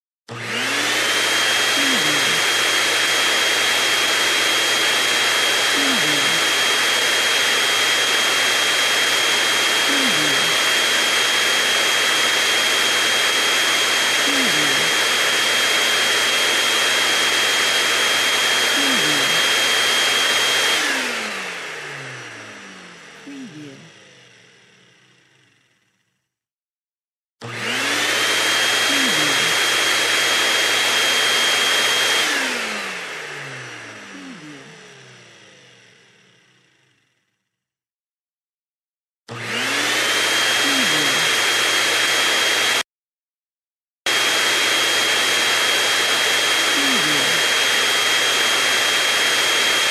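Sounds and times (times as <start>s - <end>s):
vacuum cleaner running: 0.3s - 26.1s, 27.4s - 37.2s, 39.3s - 42.8s, 44.1s - 49.9s.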